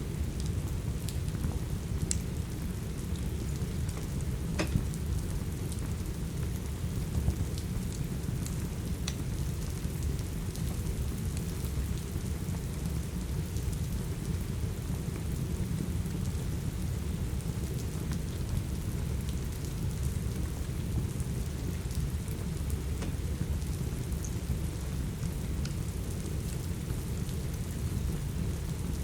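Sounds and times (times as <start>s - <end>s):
steady rain: 0.0s - 29.0s
wood fire crackling: 0.2s - 29.0s.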